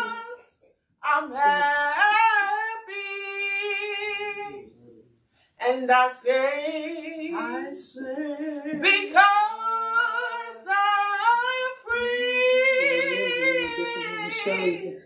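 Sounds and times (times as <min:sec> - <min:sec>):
woman singing a hymn unaccompanied: 0:00.0 - 0:04.6, 0:05.6 - 0:15.0.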